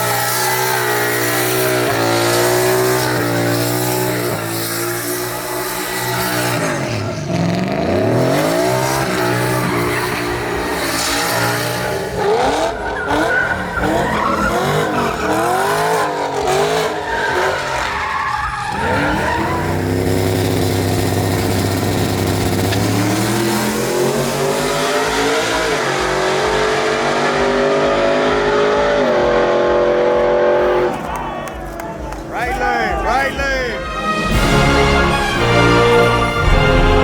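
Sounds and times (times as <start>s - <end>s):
tyres squealing in a burnout: 0.0s - 36.6s
truck engine revving: 0.0s - 37.0s.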